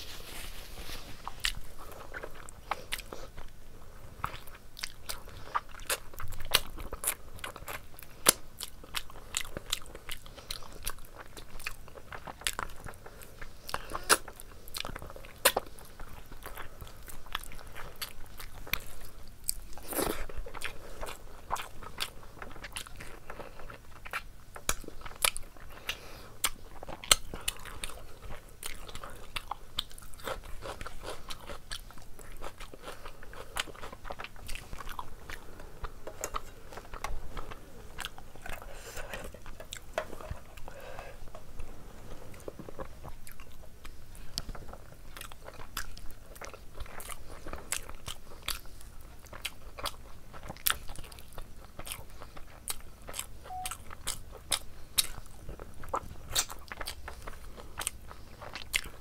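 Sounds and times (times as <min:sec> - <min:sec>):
wet chewing and crunching: 0:00.0 - 0:59.0.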